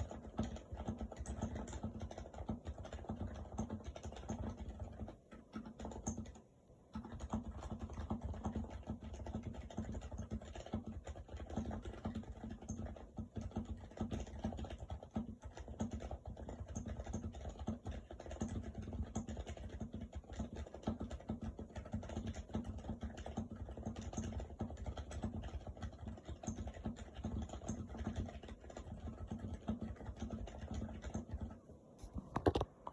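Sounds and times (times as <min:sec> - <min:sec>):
keyboard typing: 0:00.0 - 0:32.9.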